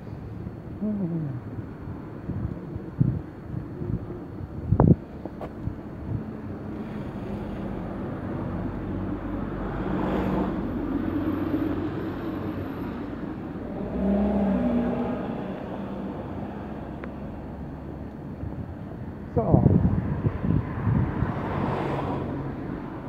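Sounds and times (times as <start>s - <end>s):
motor vehicles passing: 3.8s - 23.0s.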